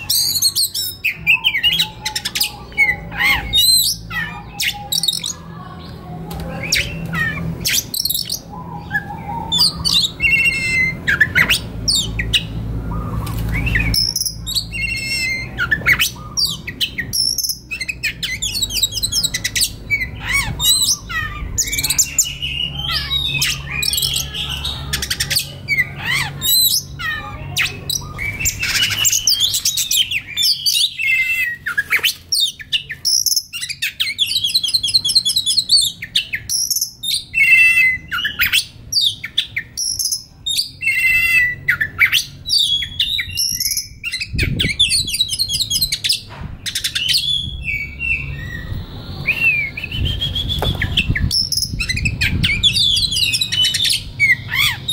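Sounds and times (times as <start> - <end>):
bird singing whistles and trills: 0.0 - 5.4, 6.6 - 54.9.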